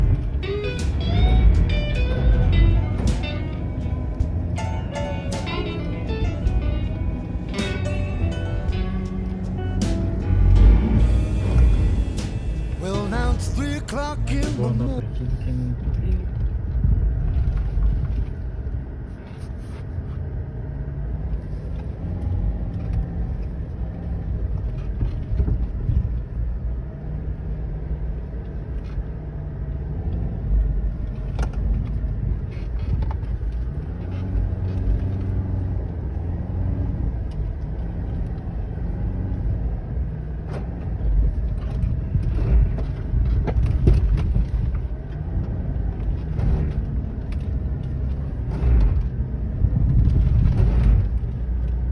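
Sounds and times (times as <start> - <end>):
car engine rumbling: 0.0 - 51.9.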